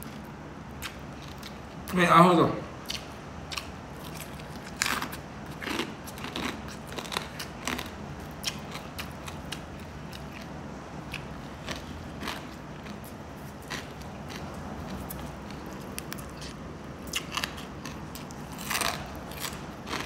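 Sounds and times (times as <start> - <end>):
crunching and chewing: 0.0 - 2.0, 2.8 - 20.0.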